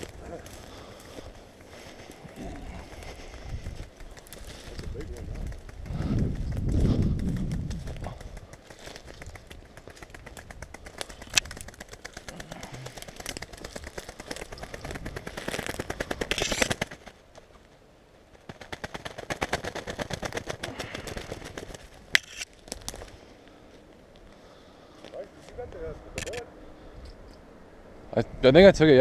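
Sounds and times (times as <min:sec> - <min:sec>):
bird wings fluttering in leaves: 0:00.0 - 0:23.4.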